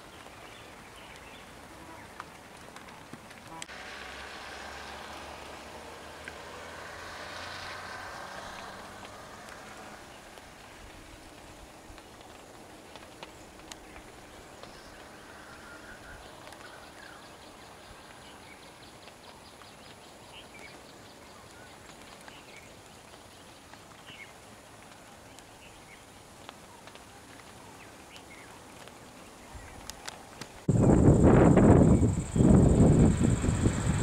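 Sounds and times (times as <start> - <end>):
low forest background: 0.0 - 34.0.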